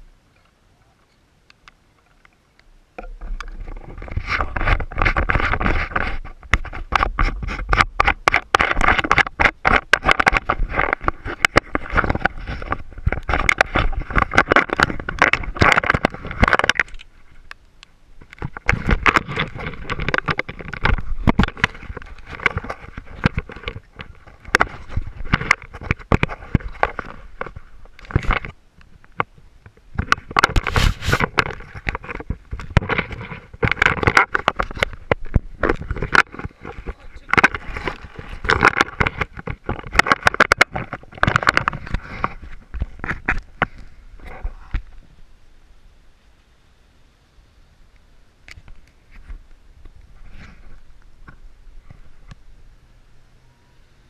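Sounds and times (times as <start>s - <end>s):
small knocks and clicks: 0.4s - 45.0s
rain jacket rustling on microphone: 3.2s - 45.2s, 48.7s - 52.4s.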